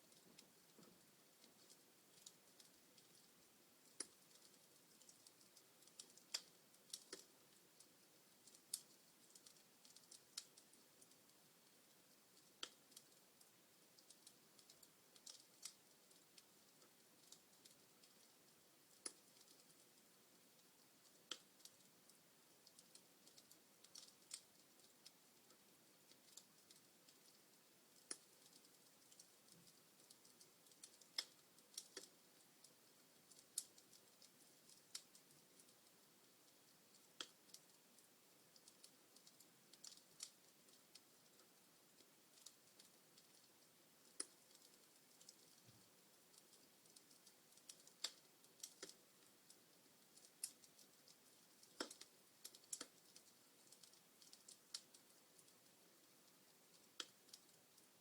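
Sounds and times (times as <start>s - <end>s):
faint fire hiss: 0.0s - 58.0s
log fire crackling: 0.0s - 58.0s.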